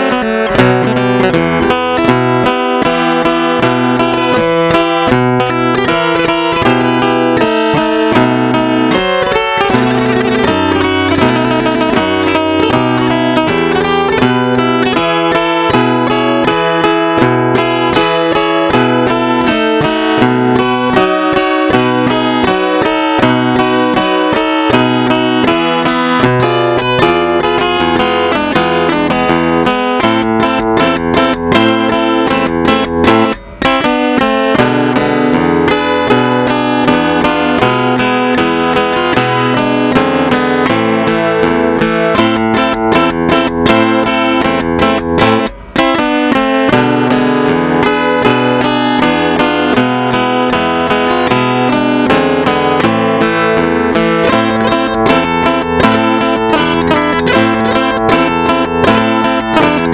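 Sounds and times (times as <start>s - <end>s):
robotic guitar playing: 0.0s - 59.9s.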